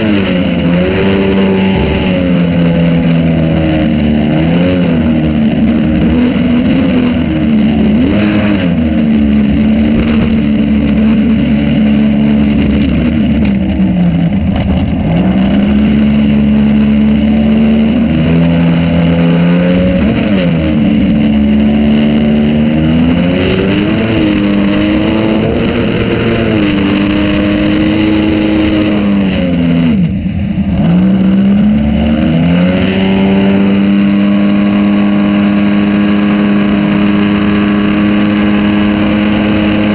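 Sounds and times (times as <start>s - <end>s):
boat motor running: 0.0s - 39.9s.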